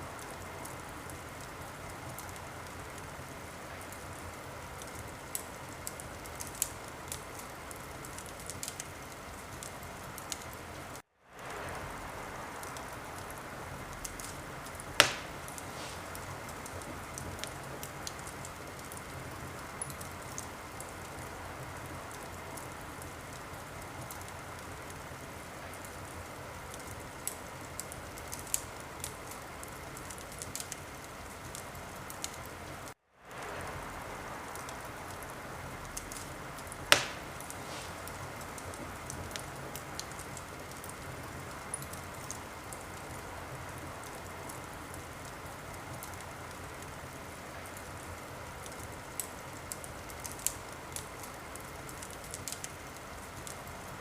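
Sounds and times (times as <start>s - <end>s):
logs crackling in a fireplace: 0.0s - 54.0s.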